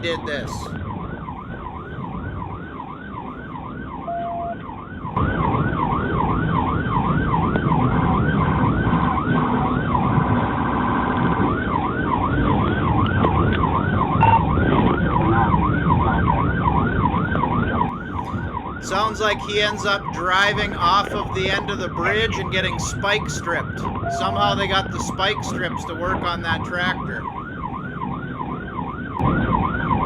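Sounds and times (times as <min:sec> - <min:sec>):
police siren: 0:00.0 - 0:30.0
vehicle engine and road rumble: 0:00.0 - 0:30.0.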